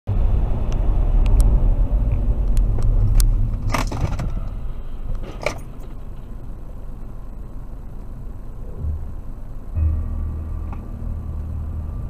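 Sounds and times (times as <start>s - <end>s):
car road and engine rumble: 0.1s - 12.0s.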